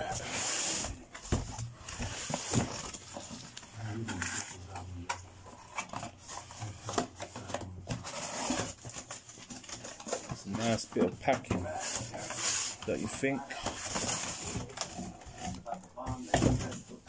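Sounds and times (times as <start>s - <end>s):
cardboard flaps rustling: 0.0s - 17.0s.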